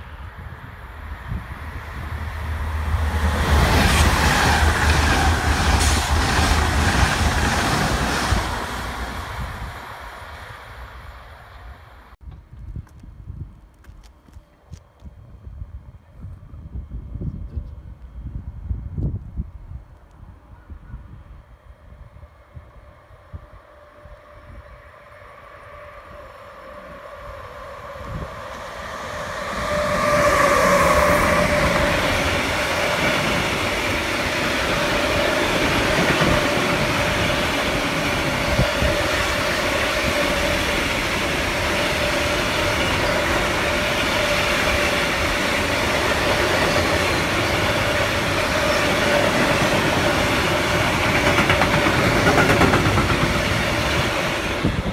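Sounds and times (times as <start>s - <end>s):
freight train passing: 0.0s - 12.4s, 14.3s - 54.9s.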